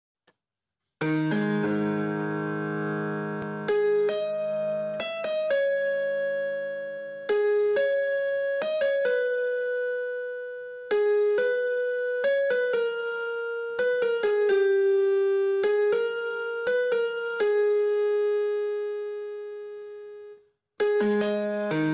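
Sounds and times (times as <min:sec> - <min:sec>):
slow single-note melody: 0:01.0 - 0:21.9.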